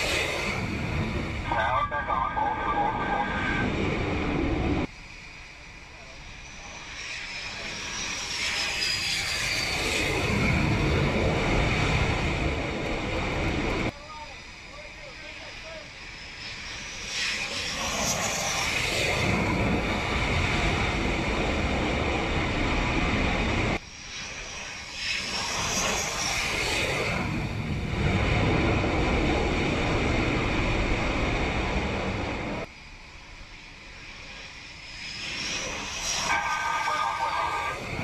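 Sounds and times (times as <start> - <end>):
fighter jets passing low: 0.0 - 38.0
high jet engine whine: 0.0 - 38.0.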